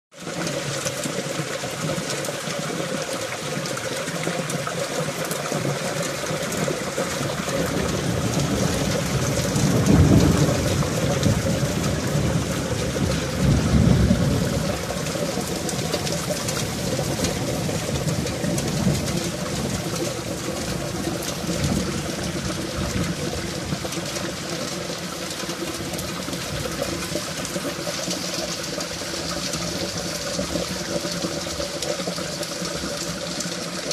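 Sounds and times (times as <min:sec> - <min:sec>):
heavy rain on stone and tiles: 0:00.1 - 0:33.9.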